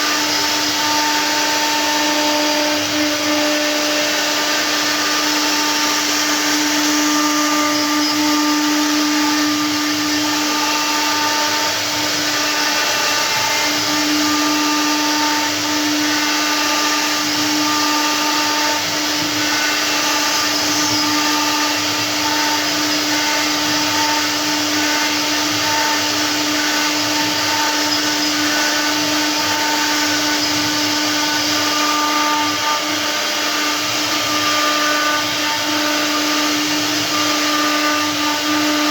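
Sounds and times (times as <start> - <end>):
router spindle cutting stone: 0.0 - 38.9.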